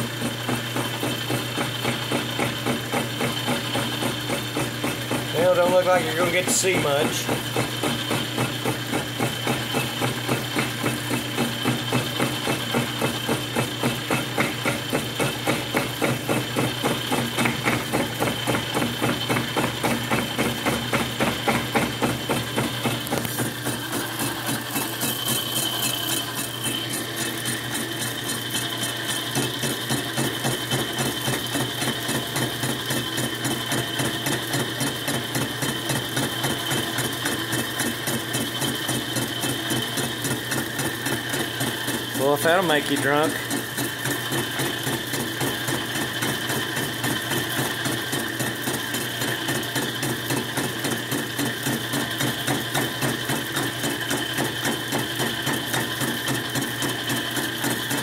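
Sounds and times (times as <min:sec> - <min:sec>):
metal lathe cutting steel: 0:00.1 - 0:58.0.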